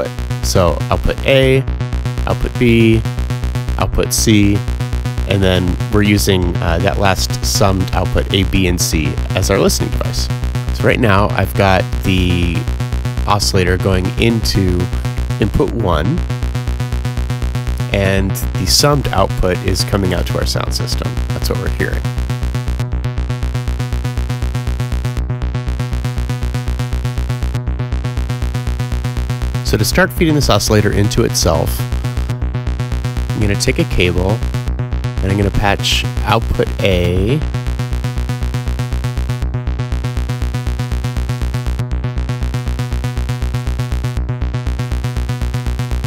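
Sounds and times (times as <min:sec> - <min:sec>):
buzzy synthesizer oscillator note: 0:00.0 - 0:46.0.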